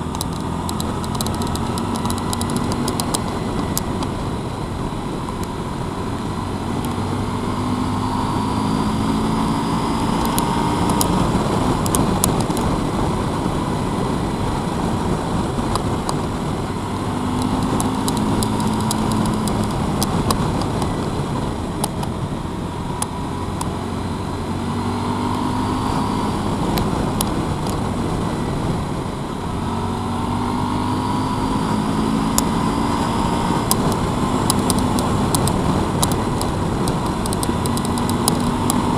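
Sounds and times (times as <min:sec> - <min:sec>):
motorcycle engine revving: 0:00.0 - 0:38.9
road and wind rush: 0:00.0 - 0:38.9.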